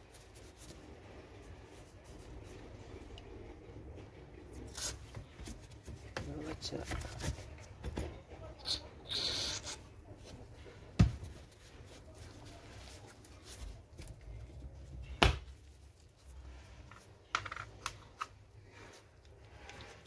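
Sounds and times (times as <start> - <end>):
quiet rustling: 0.0 - 8.6, 9.7 - 17.3.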